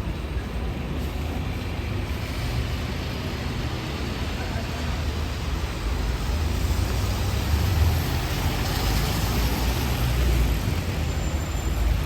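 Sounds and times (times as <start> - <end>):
passing traffic rumble: 0.0 - 12.0
rain and wet tyres hissing: 1.0 - 12.0.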